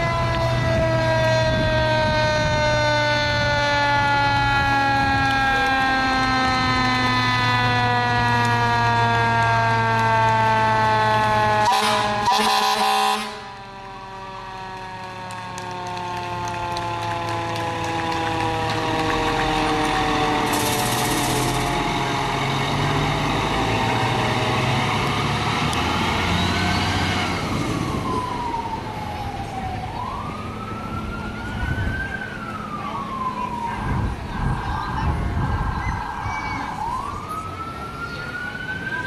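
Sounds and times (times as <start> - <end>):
fire engine sirens wailing: 0.0 - 39.0
truck engines rumbling: 0.0 - 39.0.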